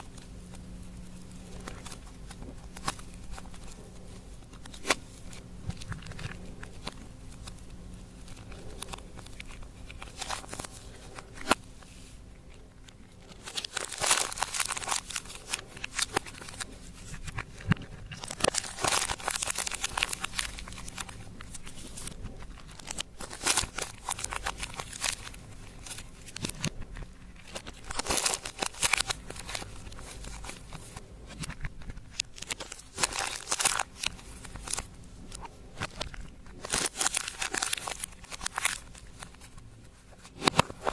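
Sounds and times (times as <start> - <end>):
slime crinkling and crackling: 0.0 - 40.9.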